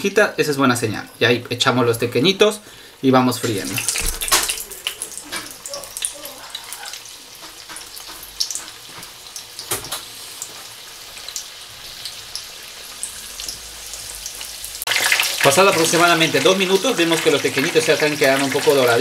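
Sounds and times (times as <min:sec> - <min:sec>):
food sizzling in hot oil: 0:00.0 - 0:19.0
oil crackling and popping: 0:03.3 - 0:19.0.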